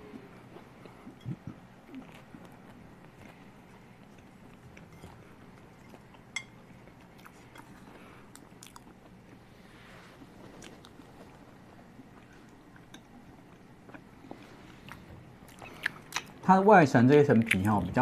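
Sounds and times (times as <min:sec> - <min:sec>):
chewing crisp pastry: 0:00.1 - 0:16.4, 0:17.3 - 0:18.0.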